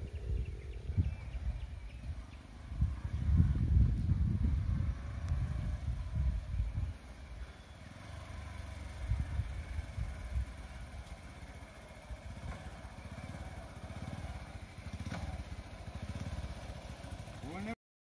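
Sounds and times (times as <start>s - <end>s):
motorcycle engine running: 0.0s - 17.8s.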